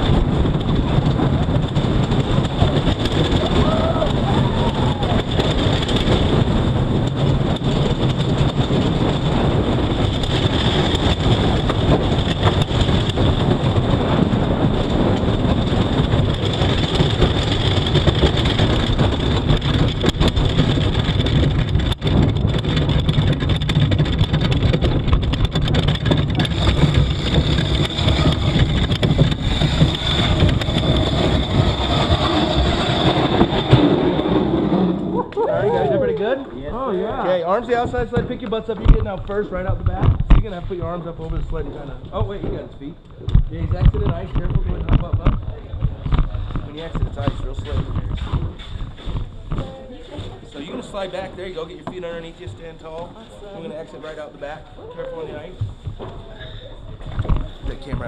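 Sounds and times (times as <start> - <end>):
sled runners rumbling on ice: 0.0 - 58.0
wind rushing past microphone: 0.0 - 58.0.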